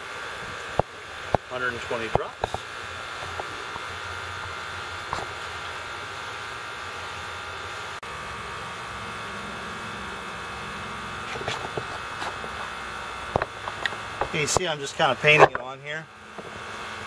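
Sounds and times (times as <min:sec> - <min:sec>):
faint high whine: 0:00.0 - 0:17.0
lower hum: 0:00.0 - 0:17.0
machinery hum: 0:00.0 - 0:17.0.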